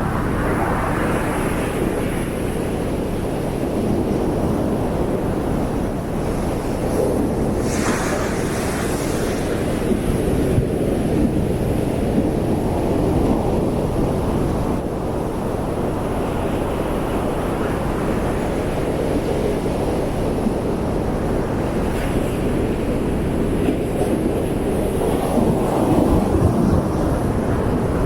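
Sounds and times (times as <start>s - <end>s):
ocean surf roaring: 0.0s - 28.0s.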